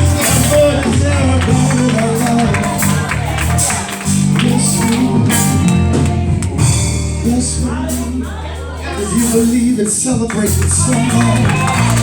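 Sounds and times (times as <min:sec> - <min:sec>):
band playing: 0:00.0 - 0:12.0
drum kit with cymbal strikes: 0:00.0 - 0:12.0
sustained low chords: 0:00.0 - 0:12.0.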